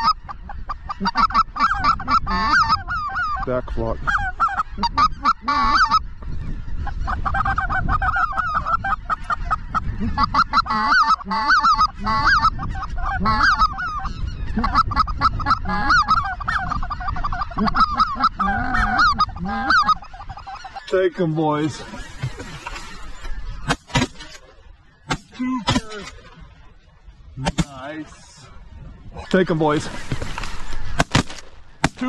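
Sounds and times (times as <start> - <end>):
geese honking: 0.0 - 32.0.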